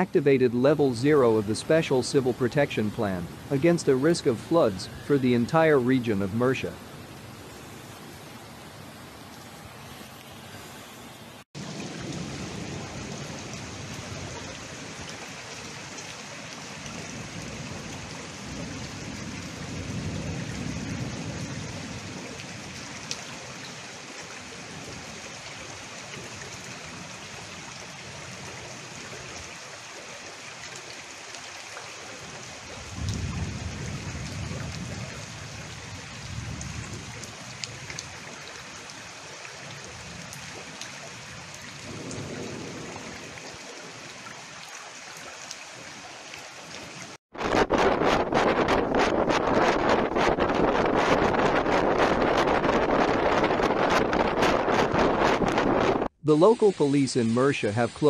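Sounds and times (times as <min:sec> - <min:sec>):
heavy rain and rushing floodwater: 0:00.0 - 0:58.0.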